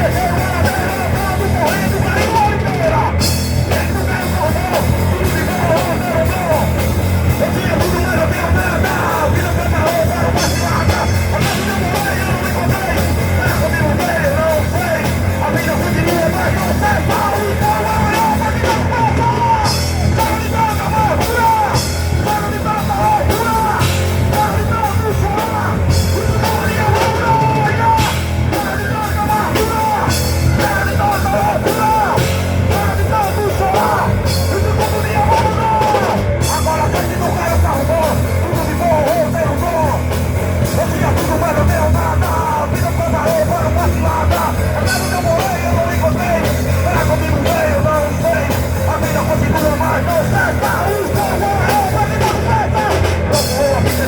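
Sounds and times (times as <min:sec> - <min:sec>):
person singing: 0:00.0 - 0:54.0
rock band playing live: 0:00.0 - 0:54.0.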